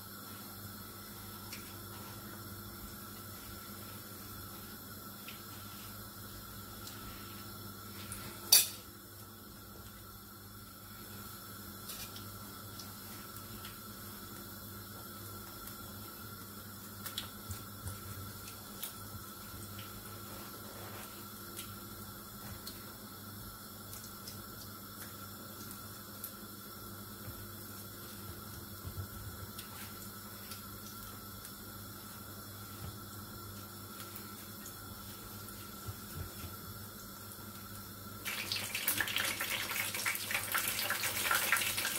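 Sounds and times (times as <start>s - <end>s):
doughnuts frying in oil: 0.0s - 41.9s.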